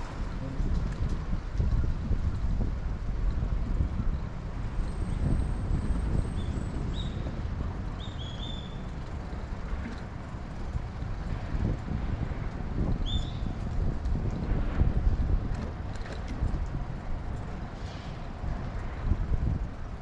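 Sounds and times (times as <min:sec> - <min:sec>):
city traffic rumble: 0:00.0 - 0:20.0
wind on the microphone: 0:00.0 - 0:20.0.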